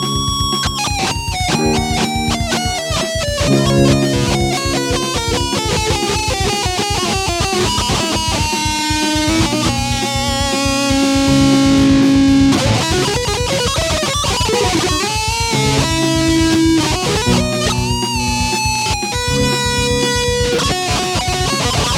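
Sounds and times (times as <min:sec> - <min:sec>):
electric guitar music with fast beat: 0:00.0 - 0:21.9.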